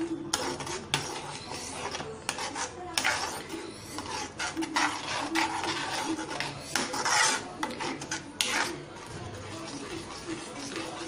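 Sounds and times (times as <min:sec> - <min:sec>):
spatula scraping a pan: 0:00.0 - 0:11.0
thick curry bubbling: 0:00.0 - 0:11.0.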